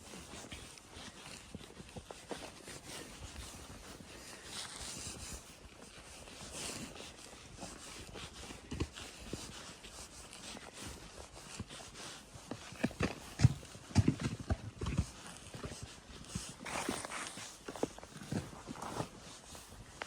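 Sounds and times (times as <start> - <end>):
hooves crunching in snow: 0.0 - 20.0.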